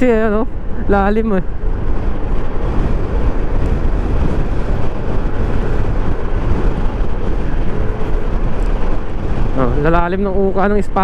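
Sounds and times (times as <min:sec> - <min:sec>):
scooter engine and tyre noise: 0:00.0 - 0:11.0
wind rush over microphone: 0:00.0 - 0:11.0.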